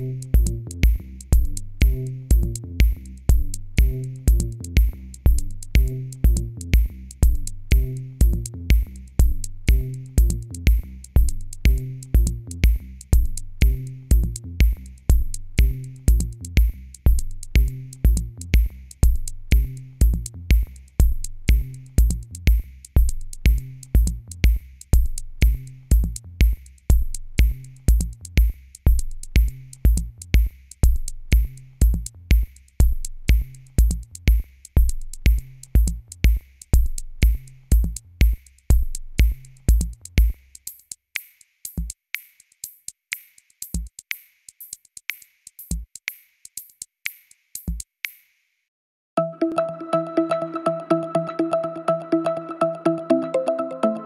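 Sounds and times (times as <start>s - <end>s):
electronic music with drum-machine beat: 0.0s - 47.8s, 49.2s - 54.0s
ticking hi-hat: 0.0s - 48.5s.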